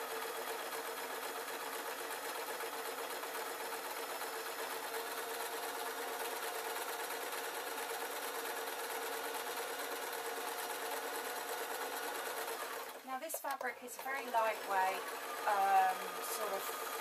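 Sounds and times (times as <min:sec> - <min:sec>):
electric sewing machine stitching: 0:00.0 - 0:17.0.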